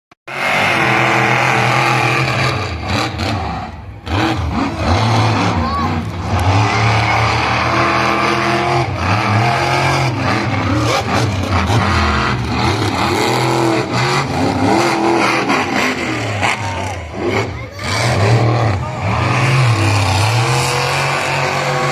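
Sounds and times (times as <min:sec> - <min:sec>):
monster truck engines revving: 0:00.3 - 0:21.9.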